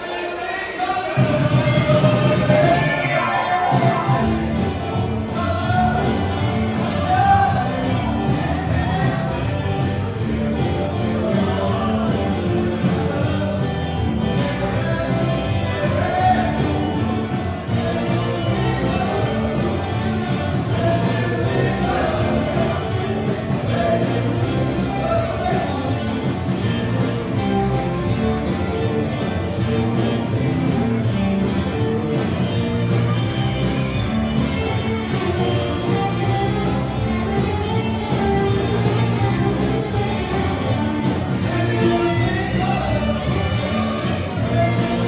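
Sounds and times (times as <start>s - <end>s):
live band playing: 0.0s - 45.0s
person singing lead vocal: 0.0s - 45.0s
steady drumbeat: 0.0s - 45.0s.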